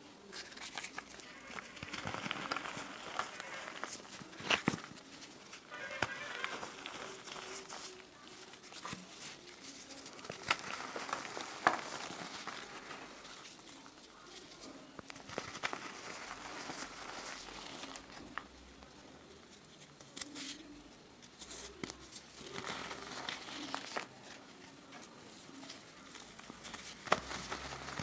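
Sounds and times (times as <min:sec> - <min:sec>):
chalk crunching and crumbling: 0:00.2 - 0:18.8, 0:19.8 - 0:28.0.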